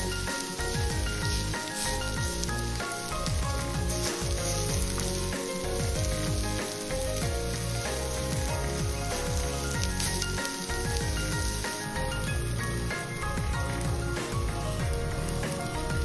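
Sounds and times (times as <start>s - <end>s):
background music: 0.0s - 16.0s
meat sizzling in a tin: 0.0s - 16.0s.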